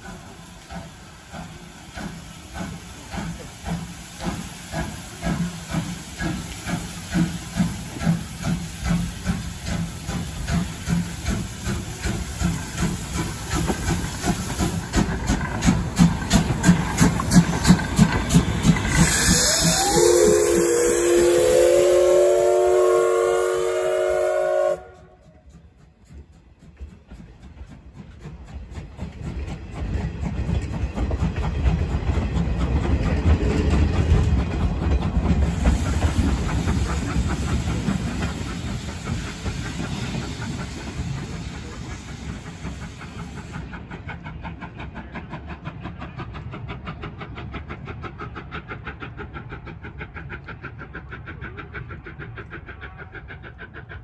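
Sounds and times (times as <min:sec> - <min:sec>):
steam train rolling past: 0:00.0 - 0:54.0.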